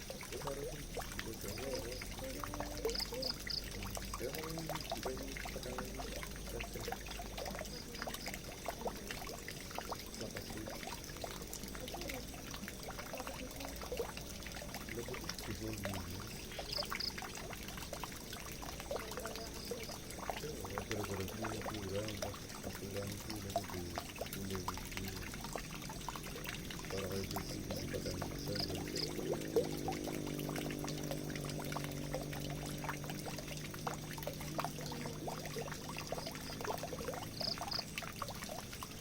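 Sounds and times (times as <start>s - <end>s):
water gurgling: 0.0s - 39.0s
water pouring into a drain: 0.0s - 39.0s.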